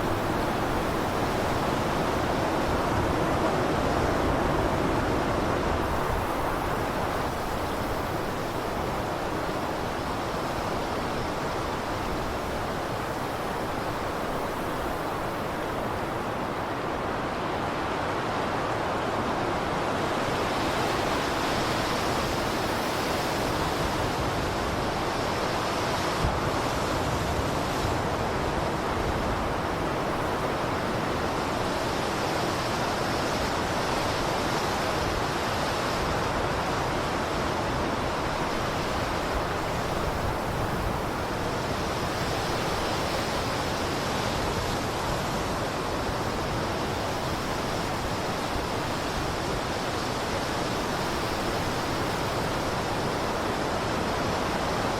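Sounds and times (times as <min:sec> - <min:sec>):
blizzard wind blowing: 0:00.0 - 0:54.9.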